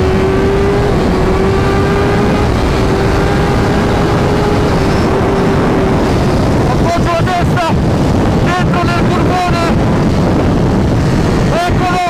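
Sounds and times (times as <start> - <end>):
motorcycle engine running hard: 0.0 - 12.0
wind rushing over microphone: 0.0 - 12.0.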